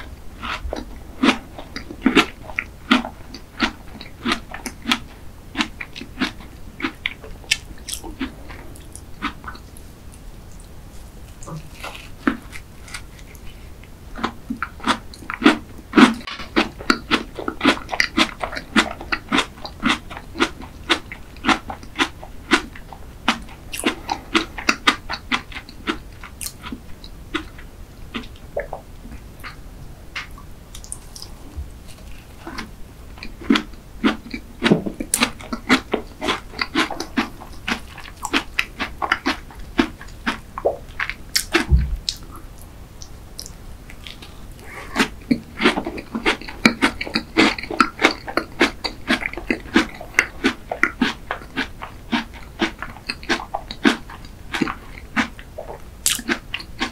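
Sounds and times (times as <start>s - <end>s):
close-miked chewing: 0.0s - 56.9s.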